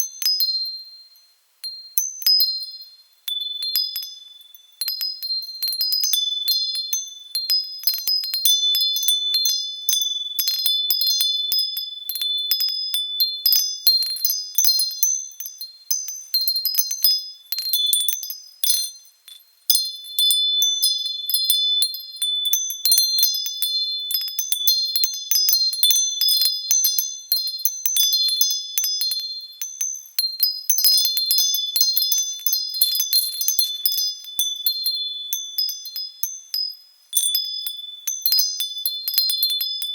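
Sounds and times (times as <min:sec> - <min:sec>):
wind chime ringing: 0:03.3 - 0:39.9.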